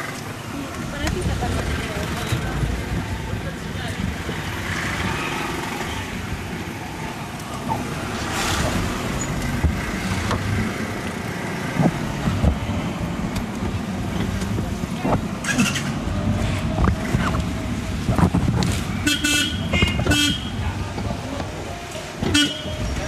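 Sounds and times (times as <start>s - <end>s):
car engine: 0.0s - 23.0s
road noise: 0.0s - 23.0s.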